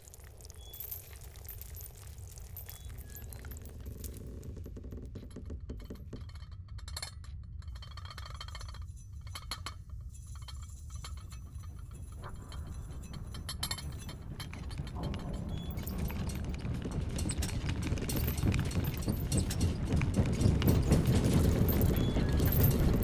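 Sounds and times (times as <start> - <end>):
low room tone rumble: 0.1 - 23.0.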